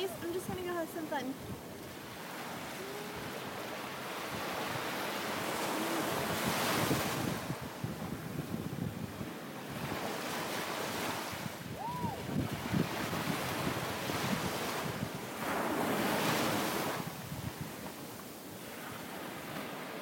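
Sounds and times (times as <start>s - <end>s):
wind buffeting microphone: 0.0s - 19.8s
ocean surf washing onto beach: 0.0s - 20.0s.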